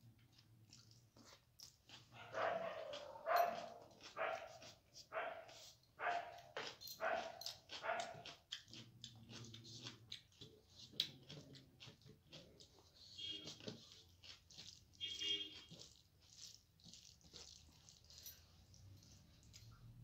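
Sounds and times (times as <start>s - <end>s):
chewing: 0.0s - 20.0s
fingers squishing rice: 0.1s - 20.0s.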